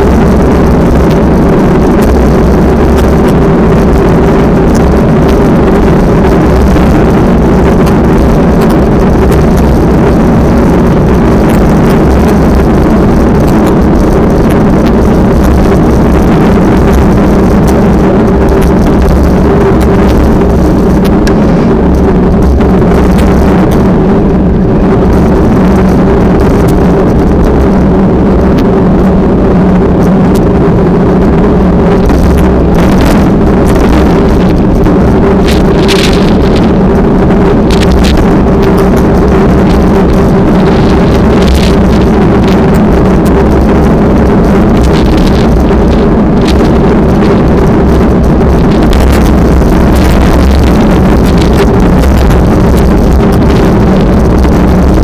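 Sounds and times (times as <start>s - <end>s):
steady engine drone: 0.0s - 55.0s
wind buffeting microphone: 0.0s - 55.0s.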